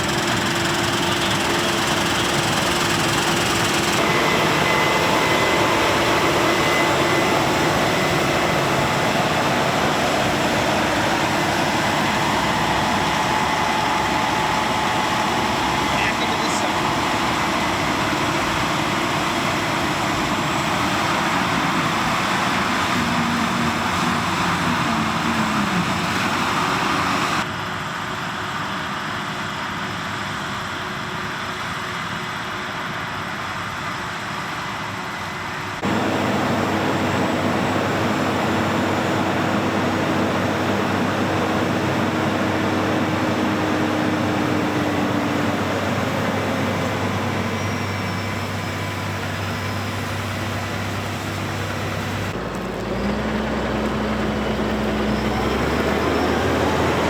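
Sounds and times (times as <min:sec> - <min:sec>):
tractor engine and machinery: 0:00.0 - 0:57.0.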